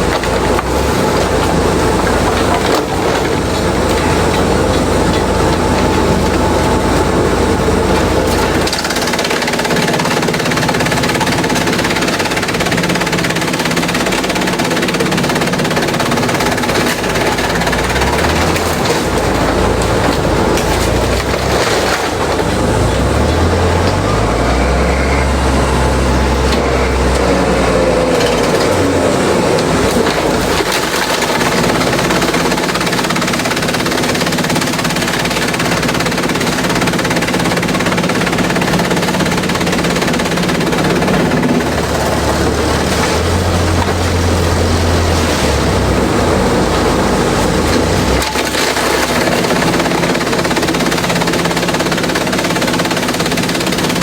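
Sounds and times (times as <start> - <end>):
low motor hum: 0.0 - 51.9
shredder rattling and grinding: 0.0 - 54.0.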